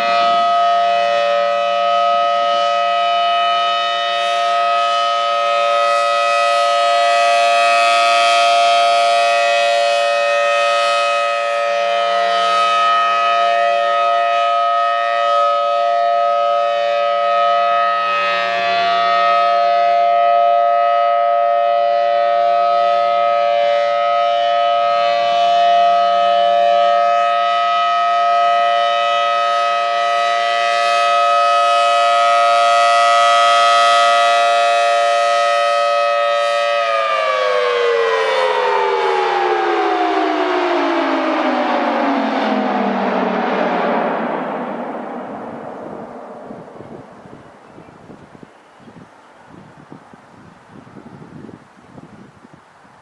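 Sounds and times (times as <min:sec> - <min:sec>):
warning siren steady tone: 0:00.0 - 0:52.5.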